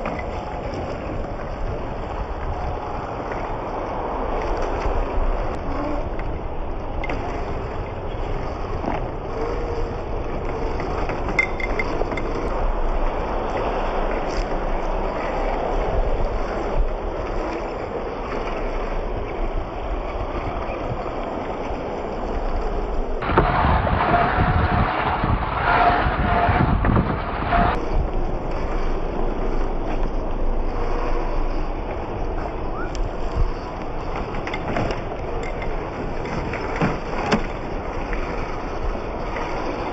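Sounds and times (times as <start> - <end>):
steady rushing noise: 0.0 - 39.9
tyres on dirt and gravel: 0.0 - 39.9
wind: 0.0 - 39.9.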